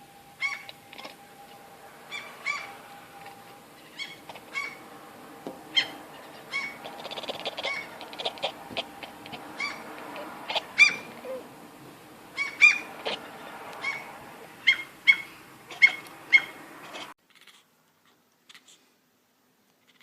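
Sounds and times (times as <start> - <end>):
cat calling: 0.3 - 11.6, 12.3 - 17.6.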